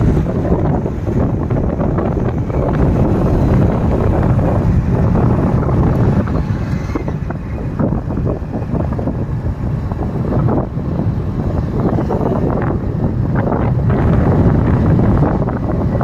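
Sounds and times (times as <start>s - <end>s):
low road and engine rumble: 0.0s - 16.0s
wind buffeting microphone: 0.0s - 16.0s.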